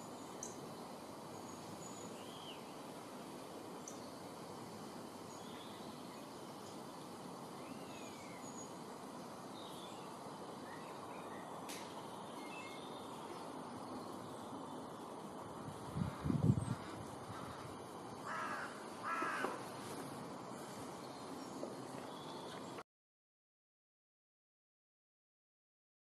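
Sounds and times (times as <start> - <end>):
outdoor background hiss: 0.0 - 22.8
small songbirds chirping: 0.0 - 22.8.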